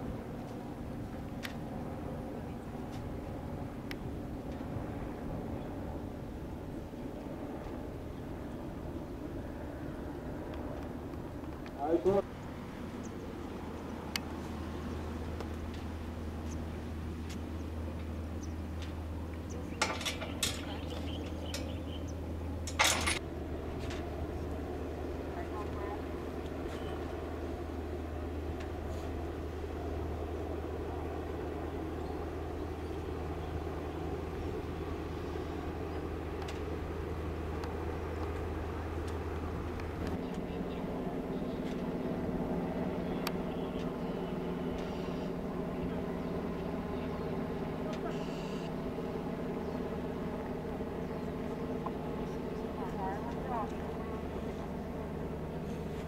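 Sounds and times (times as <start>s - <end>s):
motor engine drone: 0.0s - 56.0s
steady low hum: 0.0s - 56.0s.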